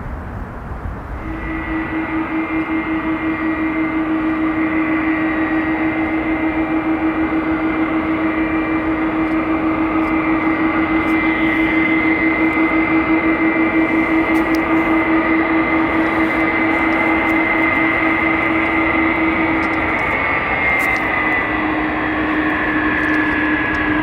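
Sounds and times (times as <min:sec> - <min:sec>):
jet engines droning: 0:00.0 - 0:24.0.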